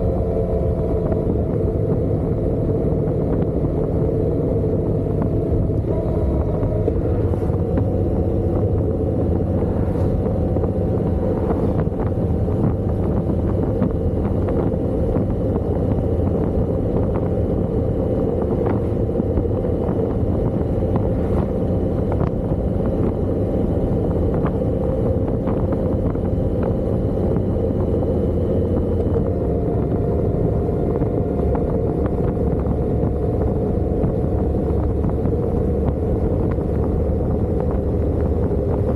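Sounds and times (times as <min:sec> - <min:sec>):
motorcycle engine drone: 0:00.0 - 0:38.9
wind and road noise: 0:00.0 - 0:38.9.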